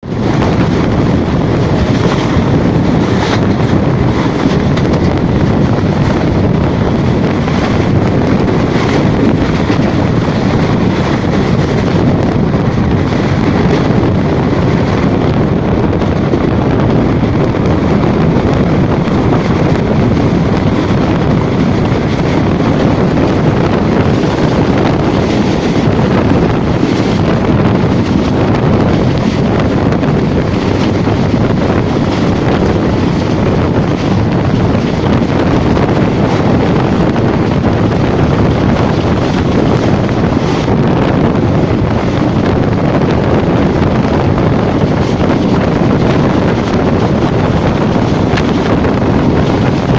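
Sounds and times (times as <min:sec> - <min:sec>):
moving train rumble: 0:00.0 - 0:49.9
wind buffeting microphone: 0:00.0 - 0:49.9.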